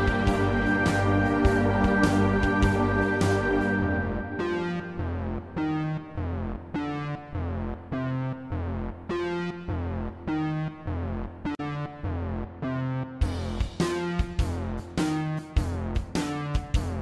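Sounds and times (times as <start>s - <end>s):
synthesizer chords: 0.0s - 17.0s.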